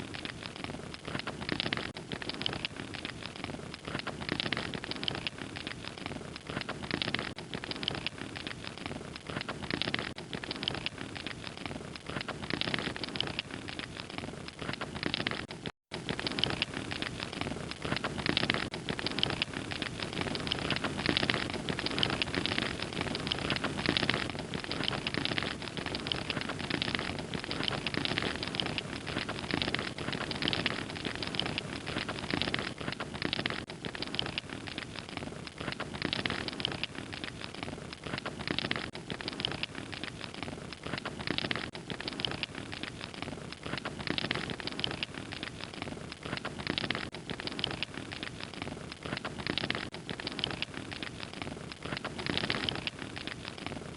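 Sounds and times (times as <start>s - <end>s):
fire crackling: 0.0s - 53.9s.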